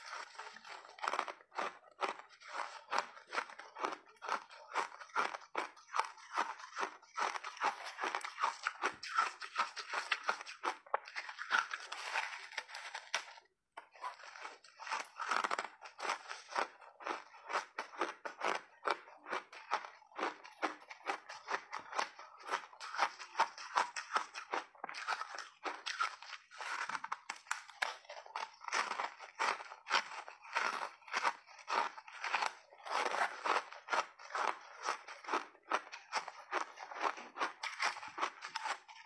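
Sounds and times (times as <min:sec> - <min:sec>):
crunching frozen berries and ice: 0:00.0 - 0:39.0.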